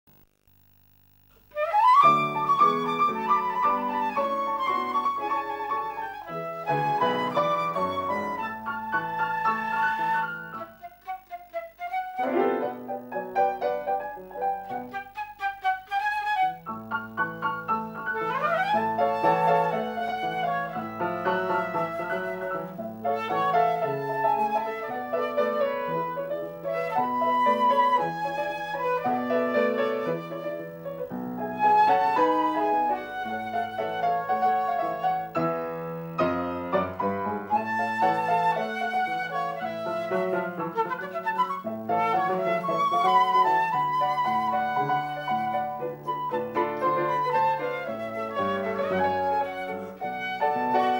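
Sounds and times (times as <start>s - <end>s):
flute melody: 1.5s - 50.9s
piano accompaniment: 1.6s - 50.9s.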